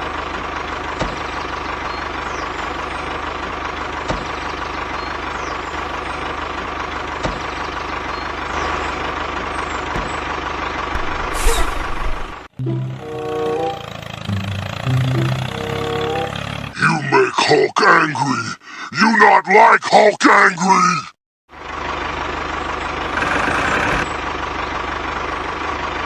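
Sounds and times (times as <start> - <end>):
tractor engine running: 0.0 - 16.8, 21.5 - 26.0.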